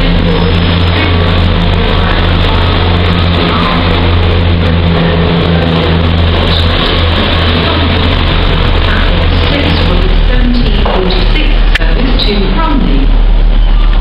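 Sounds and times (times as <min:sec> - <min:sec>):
diesel locomotive engine drone: 0:00.0 - 0:14.0
rumble of train wheels: 0:00.0 - 0:14.0.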